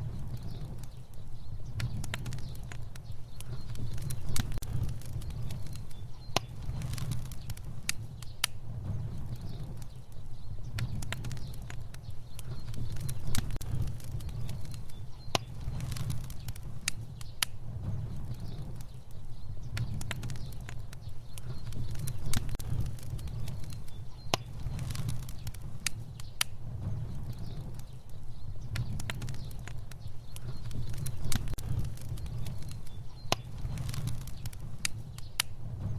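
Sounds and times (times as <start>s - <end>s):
fire crackling and popping: 0.0s - 35.9s
low rumble of flame: 0.0s - 35.9s.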